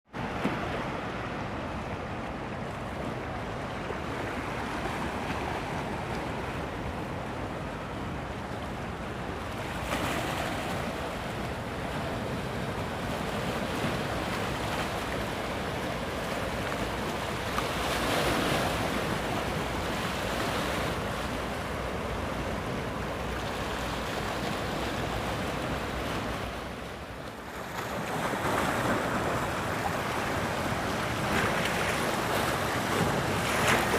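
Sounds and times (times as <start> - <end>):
sea surf rushing against shore: 0.1 - 33.9.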